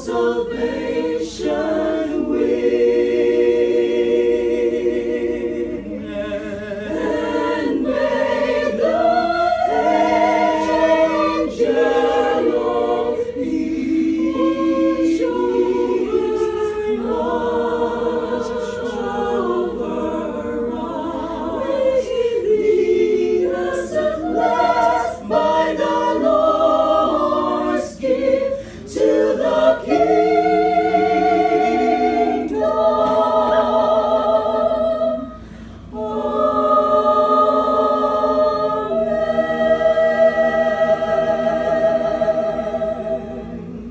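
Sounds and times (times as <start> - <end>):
choir singing a cappella: 0.0 - 43.9.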